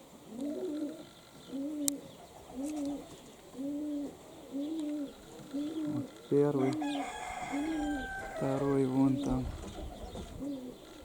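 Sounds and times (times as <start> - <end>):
pigeon cooing: 0.3 - 11.0.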